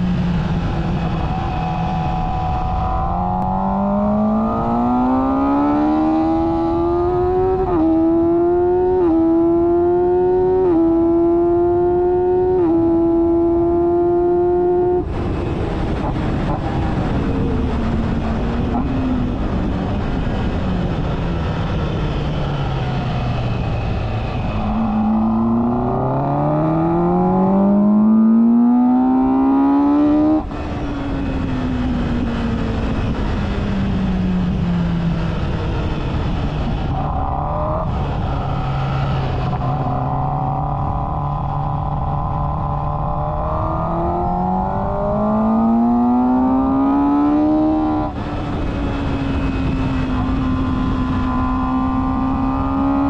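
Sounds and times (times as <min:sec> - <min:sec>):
racing motorcycle engine: 0:00.0 - 0:53.0.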